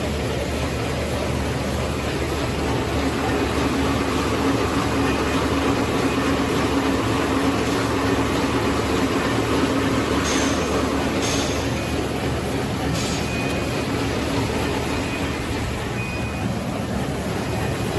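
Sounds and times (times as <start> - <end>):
packing machine humming: 0.0 - 17.9.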